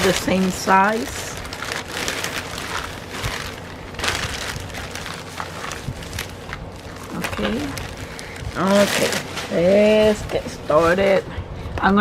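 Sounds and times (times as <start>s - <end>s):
packaging crinkling and rustling: 0.0s - 11.3s.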